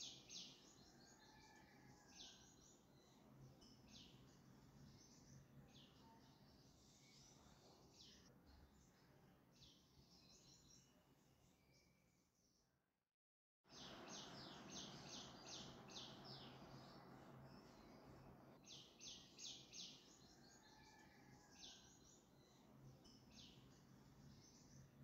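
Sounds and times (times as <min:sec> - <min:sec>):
faint birds chirping: 0:00.0 - 0:12.7, 0:13.7 - 0:25.0.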